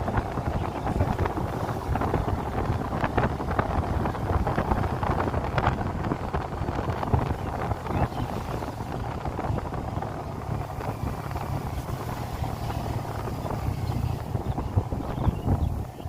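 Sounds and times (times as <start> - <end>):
motorcycle engine: 0.0 - 16.0
road noise: 0.0 - 16.0
wind buffeting microphone: 0.0 - 16.0.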